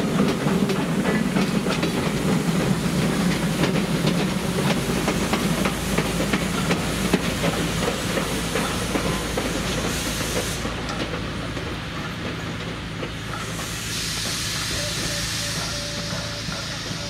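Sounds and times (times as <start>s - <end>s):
steam hissing: 0.0s - 17.0s
steam locomotive moving slowly: 0.0s - 17.0s
wheels clicking over rail joints: 0.0s - 17.0s.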